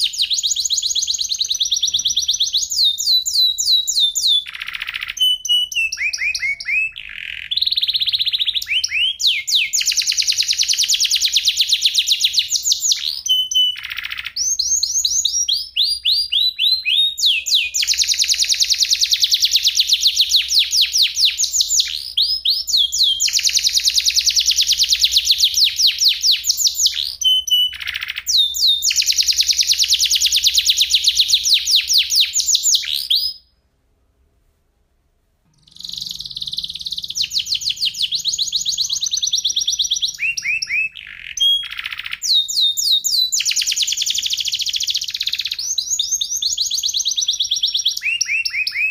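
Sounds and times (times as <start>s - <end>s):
canary singing trills: 0.0s - 33.5s, 35.6s - 48.9s.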